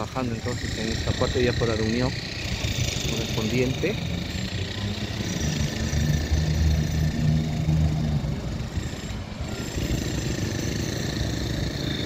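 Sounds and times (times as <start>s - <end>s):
street traffic noise: 0.0s - 12.0s
vehicle engine humming: 0.0s - 12.0s.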